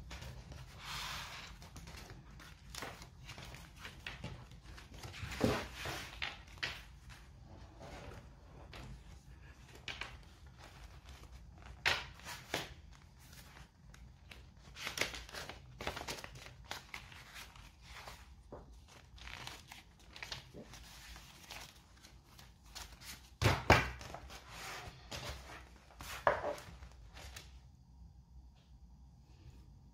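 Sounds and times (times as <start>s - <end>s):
pages turning: 0.0s - 27.6s
paper rustling: 0.0s - 27.6s.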